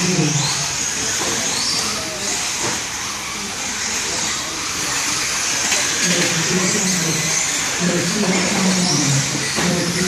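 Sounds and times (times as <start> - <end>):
motors whining: 0.0 - 10.0
rc truck motors and tyres hissing: 0.0 - 10.0.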